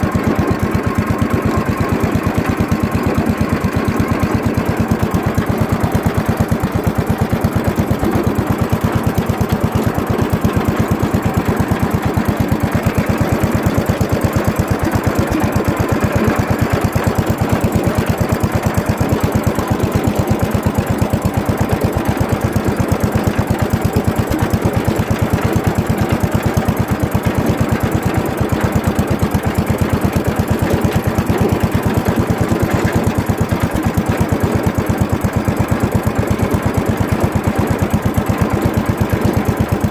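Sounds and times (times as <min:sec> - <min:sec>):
garden tractor engine chugging: 0:00.0 - 0:39.9.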